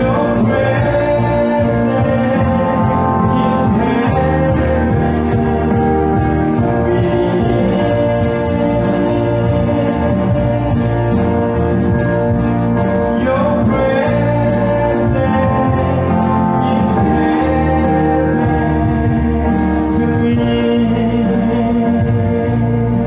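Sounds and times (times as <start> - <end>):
man singing into microphone: 0.0 - 11.6, 13.0 - 23.0
instrumental accompaniment: 0.0 - 23.0.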